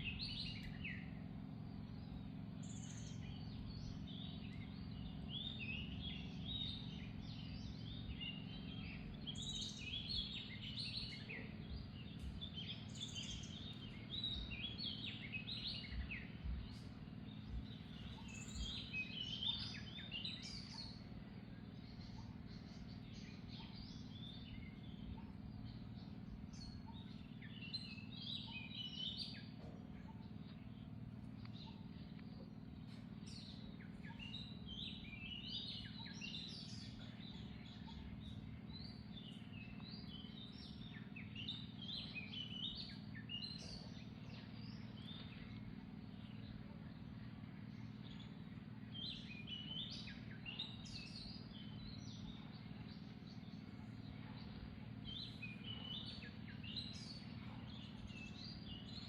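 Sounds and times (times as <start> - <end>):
birds chirping: 0.0 - 59.0
low background rumble: 0.0 - 59.0.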